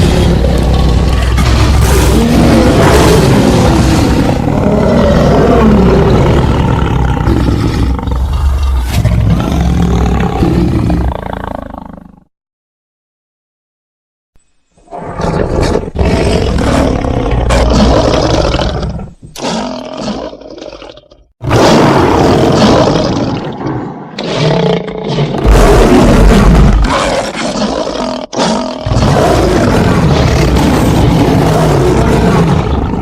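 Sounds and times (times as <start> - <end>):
big cat growling: 0.0 - 12.3, 15.0 - 33.0
big cat roaring: 0.0 - 12.3, 14.9 - 33.0.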